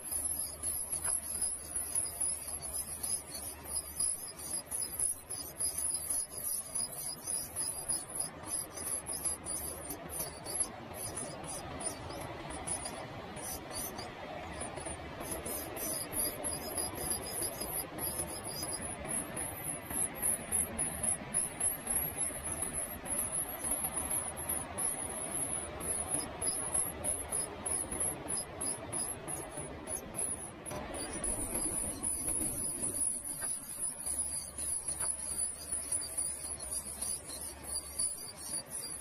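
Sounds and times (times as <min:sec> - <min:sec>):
nestlings peeping: 0:00.0 - 0:30.3, 0:30.9 - 0:39.0.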